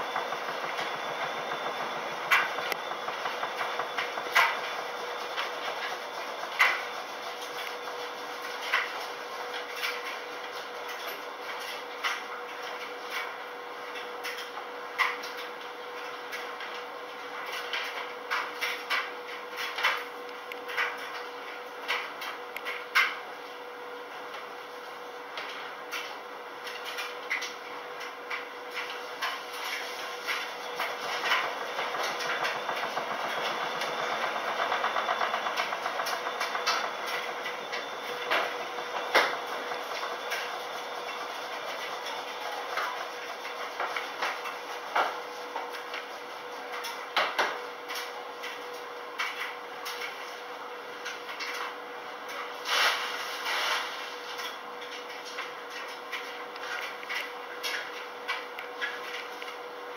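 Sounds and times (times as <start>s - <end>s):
washing machine motor hum: 0.0s - 59.9s.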